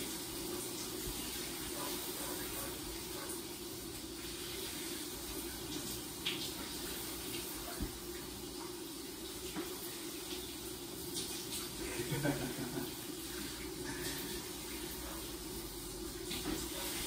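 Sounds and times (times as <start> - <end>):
shower water hissing: 0.0 - 17.0.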